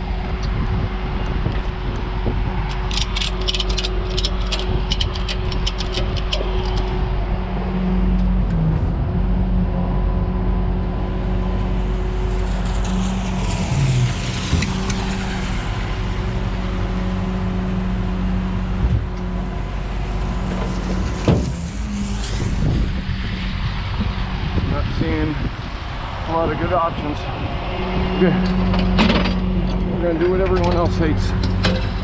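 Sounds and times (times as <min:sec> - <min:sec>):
engine running: 0:00.0 - 0:32.0
vehicles whooshing by: 0:00.0 - 0:32.0.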